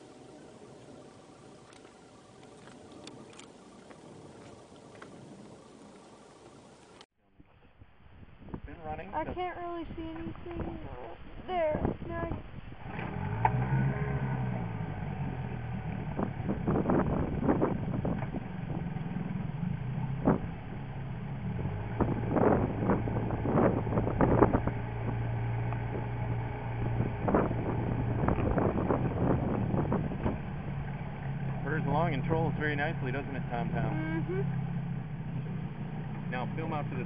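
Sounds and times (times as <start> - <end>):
outboard motor running: 0.0 - 7.0, 10.0 - 37.0.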